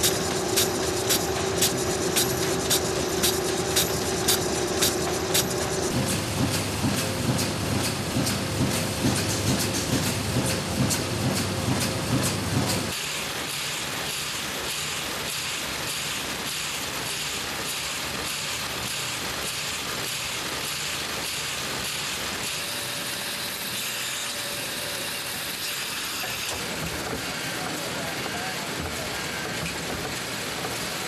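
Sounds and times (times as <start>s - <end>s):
printing press clatter and hiss: 0.0s - 31.0s.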